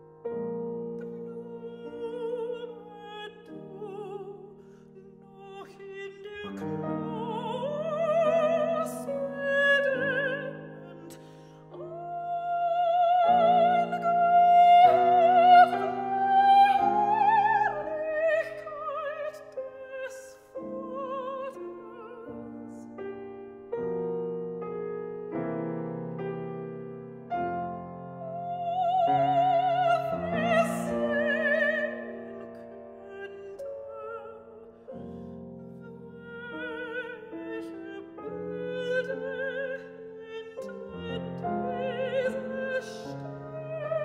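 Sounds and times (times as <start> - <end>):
soprano singing with vibrato: 0.8 - 23.4, 28.2 - 44.0.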